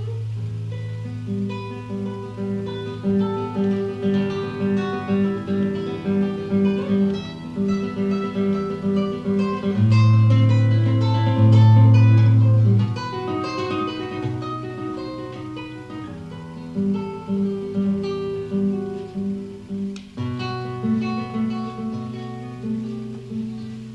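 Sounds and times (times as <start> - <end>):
acoustic guitar arpeggios: 0.0 - 23.9.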